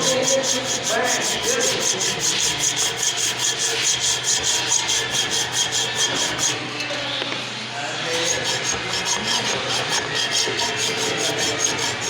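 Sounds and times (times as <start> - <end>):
abrasive rubbing on metal: 0.0 - 7.0, 8.0 - 12.0.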